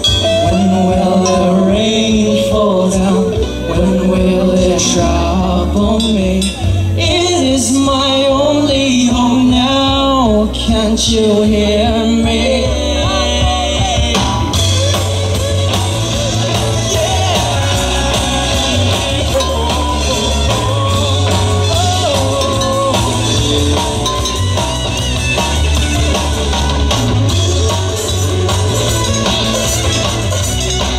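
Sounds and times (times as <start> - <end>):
rock band playing: 0.0 - 30.9.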